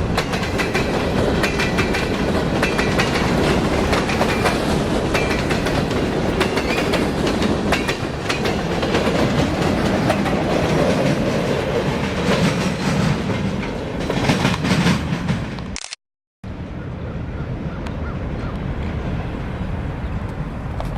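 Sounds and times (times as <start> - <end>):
train wheels rumbling on rail: 0.0 - 15.8, 17.2 - 20.9.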